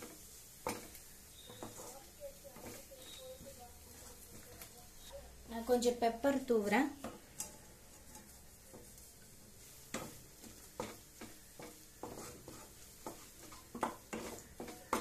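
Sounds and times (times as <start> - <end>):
faint frying sizzle: 0.0 - 15.0
wooden spatula scraping a pan: 0.0 - 15.0.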